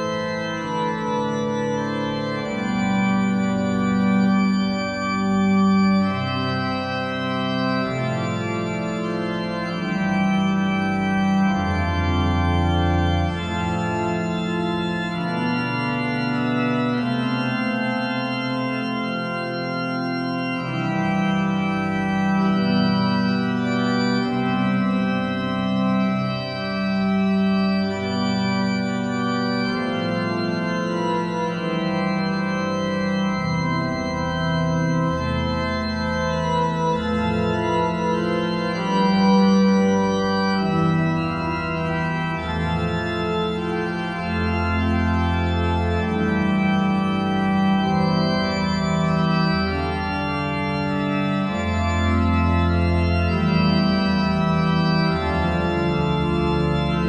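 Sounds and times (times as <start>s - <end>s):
organ-like keyboard chords: 0.0s - 57.0s.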